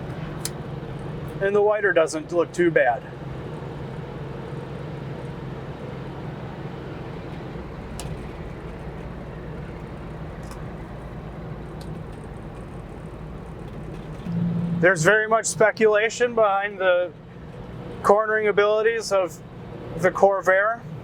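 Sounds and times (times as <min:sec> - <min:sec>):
car engine running: 0:00.0 - 0:18.1
road noise: 0:00.0 - 0:21.0.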